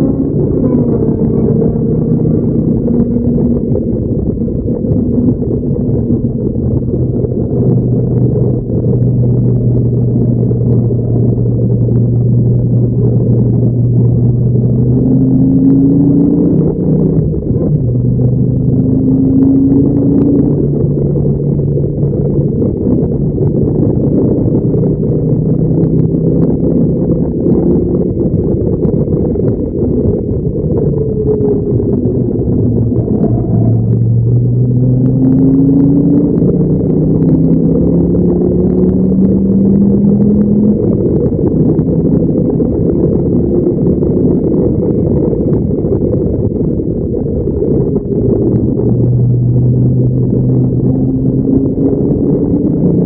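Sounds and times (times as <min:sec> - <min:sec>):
sports car engine accelerating: 0:00.0 - 0:53.0
wind rushing: 0:00.0 - 0:53.0.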